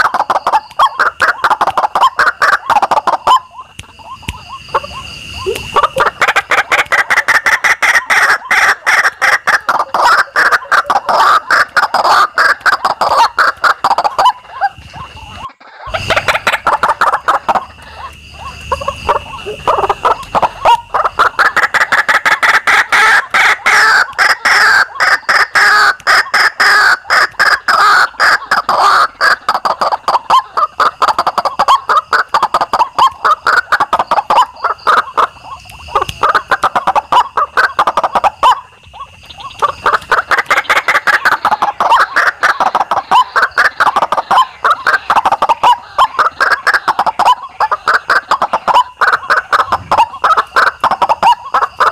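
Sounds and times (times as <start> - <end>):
birds croaking calls: 0.0 - 51.9.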